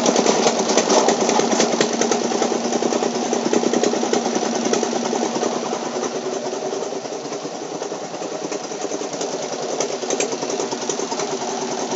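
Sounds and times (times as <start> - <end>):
washing machine rattling: 0.0 - 11.9.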